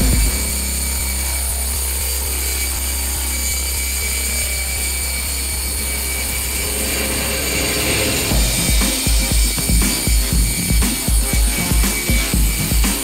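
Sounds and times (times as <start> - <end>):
angle grinder grinding stone: 0.0 - 13.0.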